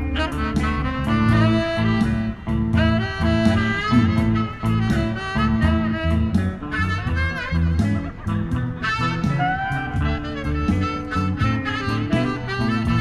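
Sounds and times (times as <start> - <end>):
saxophone jazz music: 0.0 - 13.0.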